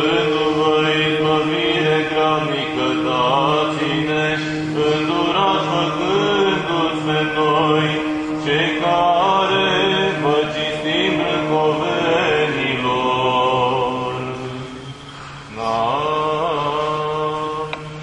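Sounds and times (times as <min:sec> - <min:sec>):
held low vocal drone: 0:00.0 - 0:18.0
person chanting slow melody: 0:00.0 - 0:18.0.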